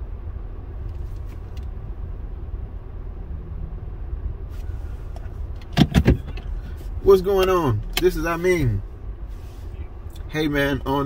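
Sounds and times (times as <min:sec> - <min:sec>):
car idling low rumble: 0:00.0 - 0:11.0.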